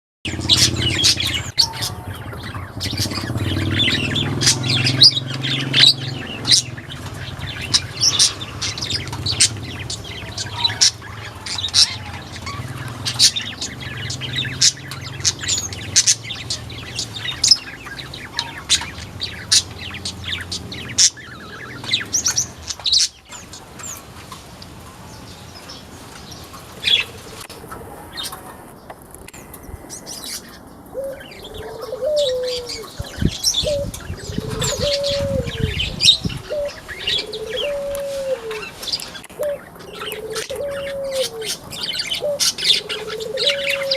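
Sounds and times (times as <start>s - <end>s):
birds chirping: 0.3s - 43.9s.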